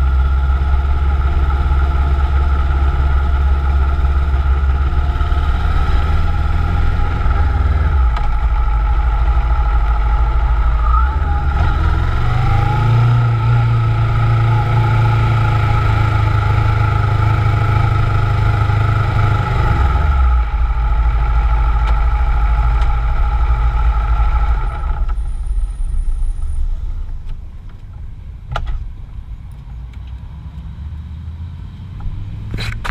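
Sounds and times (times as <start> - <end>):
motorcycle engine running: 0.0 - 28.3.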